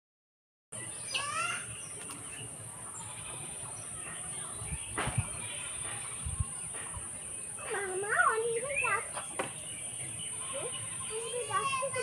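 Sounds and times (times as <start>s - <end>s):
insects droning: 0.9s - 12.0s.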